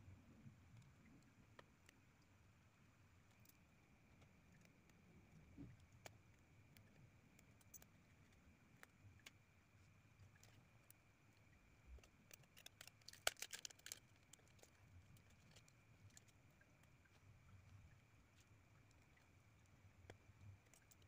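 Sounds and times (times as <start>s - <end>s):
small clicks and taps of plastic: 0.7s - 2.3s, 3.2s - 21.0s.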